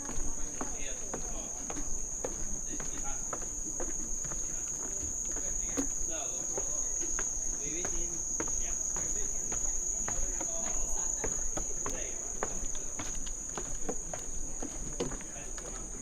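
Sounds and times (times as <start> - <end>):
footsteps on a path: 0.0 - 16.0
insects trilling: 0.0 - 16.0.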